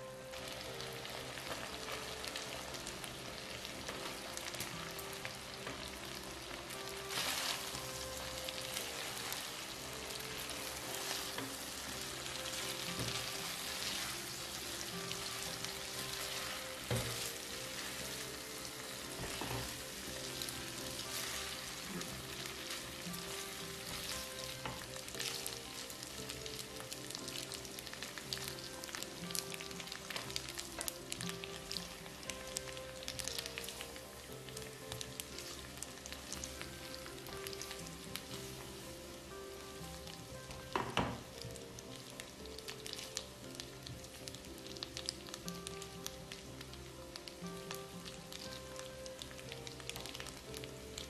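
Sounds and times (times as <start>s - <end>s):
food sizzling in a pan: 0.0s - 51.0s.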